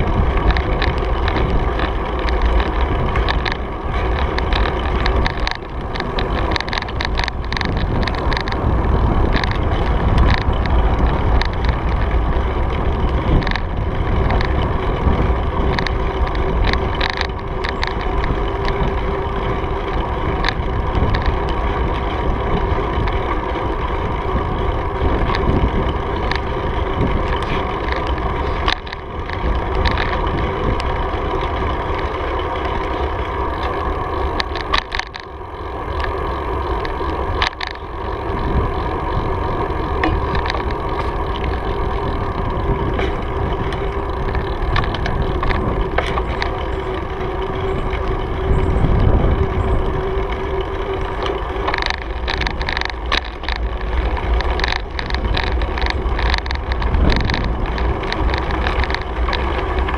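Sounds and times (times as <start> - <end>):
short clicks and rattles: 0.0 - 59.9
tyre noise on pavement: 0.0 - 59.9
wind buffeting microphone: 0.0 - 59.9.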